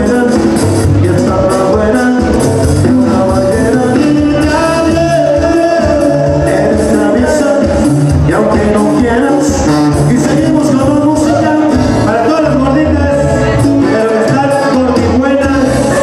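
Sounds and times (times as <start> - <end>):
accordion: 0.0 - 16.0
drums: 0.0 - 16.0
guitar: 0.0 - 16.0
person singing: 0.0 - 16.0
tuba bass line: 0.0 - 16.0.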